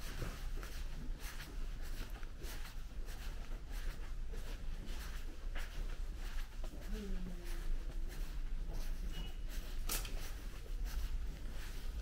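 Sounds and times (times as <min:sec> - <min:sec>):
faint rustles and taps: 0:00.0 - 0:12.0.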